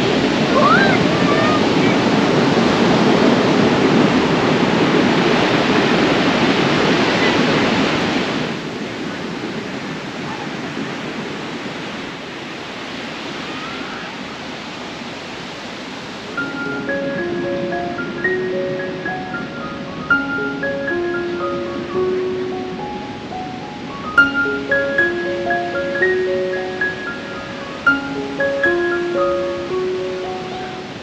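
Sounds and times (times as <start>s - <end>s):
sea surf: 0.0s - 31.0s
wind: 0.0s - 31.0s.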